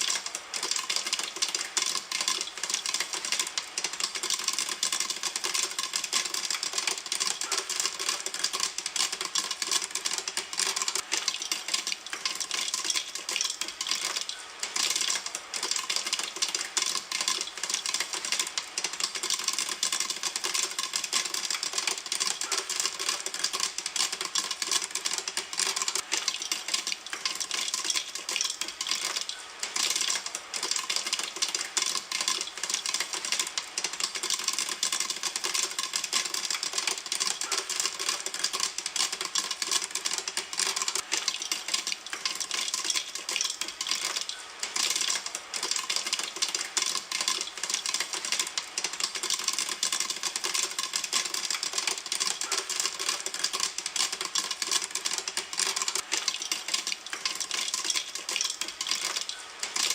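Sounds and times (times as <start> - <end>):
popcorn popping in a pan: 0.0 - 59.9.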